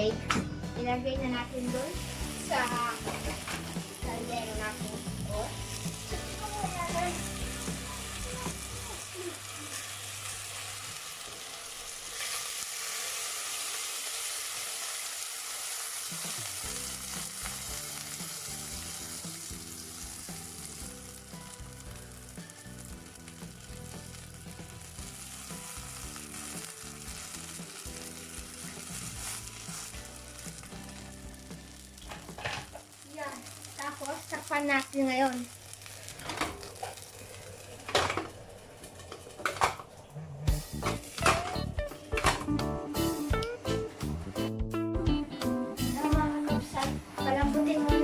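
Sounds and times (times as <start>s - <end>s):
chicken sizzling in a pot: 1.3s - 39.7s, 45.8s - 48.0s.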